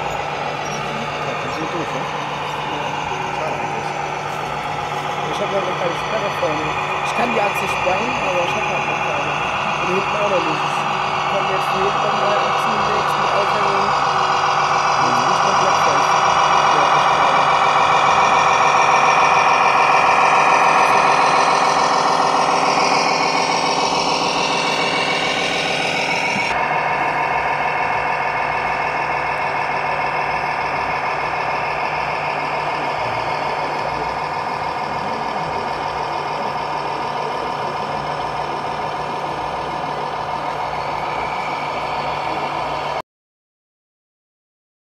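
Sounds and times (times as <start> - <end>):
diesel truck engine sound: 0.0 - 43.0.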